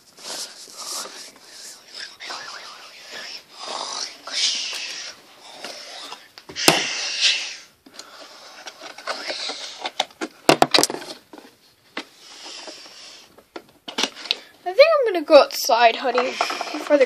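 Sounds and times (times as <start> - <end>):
plastic toys rustling: 0.0 - 6.3, 7.9 - 14.5, 15.6 - 17.0.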